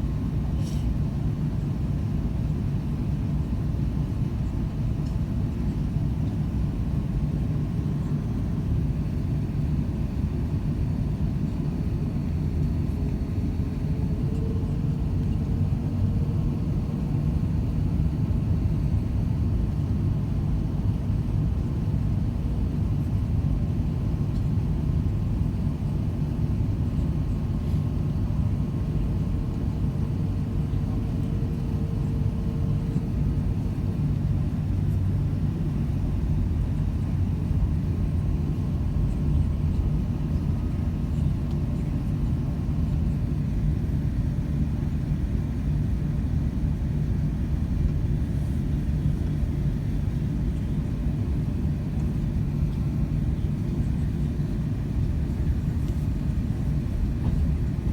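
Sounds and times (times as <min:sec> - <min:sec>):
aircraft cabin engine rumble: 0:00.0 - 0:57.9
faint hum: 0:00.0 - 0:57.9.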